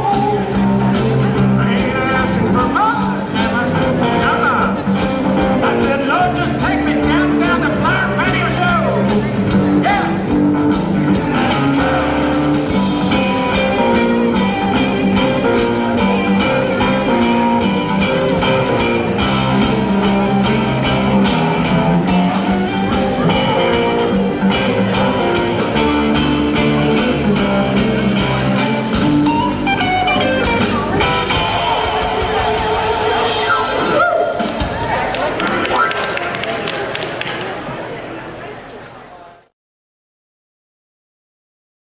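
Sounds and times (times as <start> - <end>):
live rock band playing: 0.0 - 36.2
electric guitar: 0.0 - 36.3.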